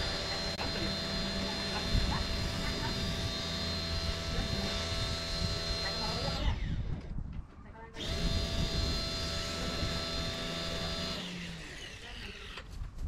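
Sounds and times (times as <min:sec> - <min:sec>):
line trimmer motor whine: 0:00.0 - 0:06.8, 0:08.0 - 0:12.6.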